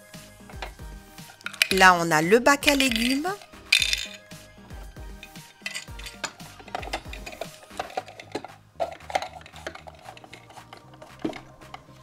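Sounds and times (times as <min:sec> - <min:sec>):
background music: 0:00.0 - 0:12.0
plastic toy pieces clattering: 0:00.5 - 0:02.0, 0:02.6 - 0:04.3, 0:05.2 - 0:12.0.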